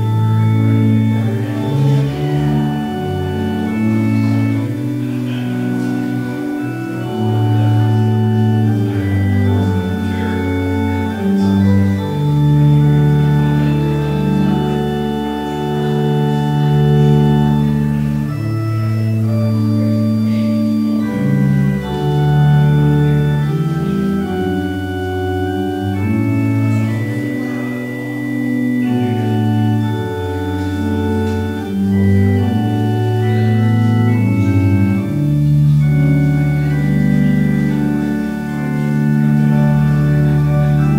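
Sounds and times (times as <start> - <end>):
organ chords: 0.0 - 40.9.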